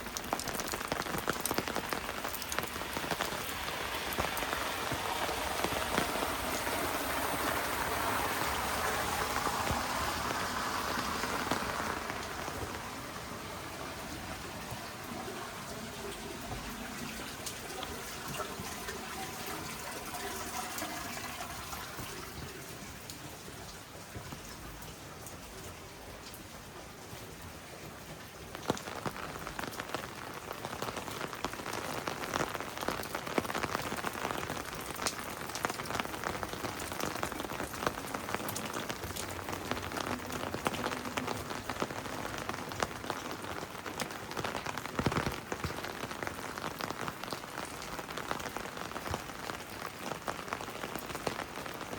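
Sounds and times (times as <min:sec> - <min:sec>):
heavy rain falling: 0:00.0 - 0:51.9
raindrops ticking on a surface: 0:00.0 - 0:51.9.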